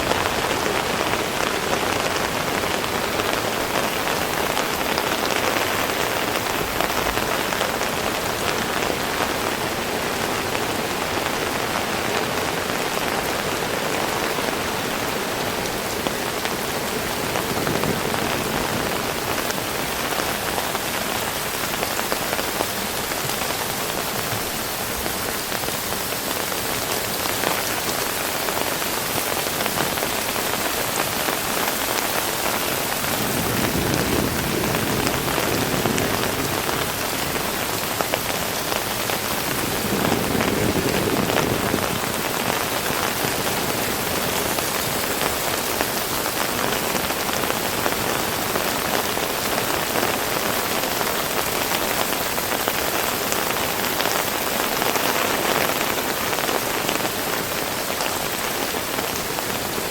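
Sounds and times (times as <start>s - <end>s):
raindrops tapping hard surfaces: 0.0s - 59.7s
heavy rain: 0.0s - 59.9s.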